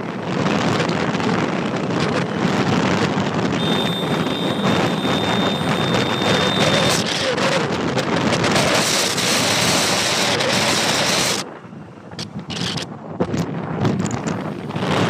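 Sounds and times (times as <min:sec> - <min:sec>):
vehicle running noise: 0:00.0 - 0:15.0
wind rushing over microphone: 0:00.0 - 0:15.0.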